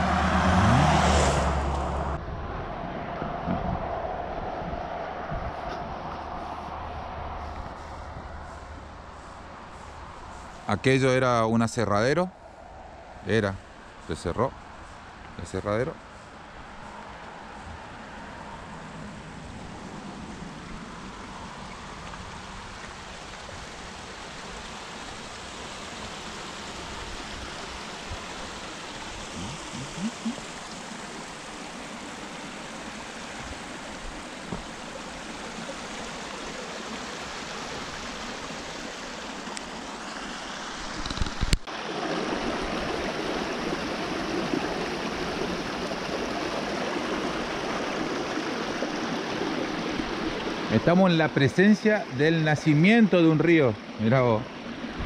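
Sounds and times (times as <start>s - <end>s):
stream rushing over rocks: 0.0s - 11.9s, 13.2s - 55.0s.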